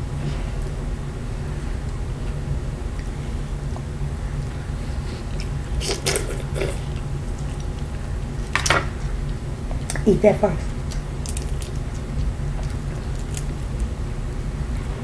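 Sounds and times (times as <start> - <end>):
low hum: 0.0 - 15.0
person chewing: 1.8 - 10.0, 10.7 - 14.9.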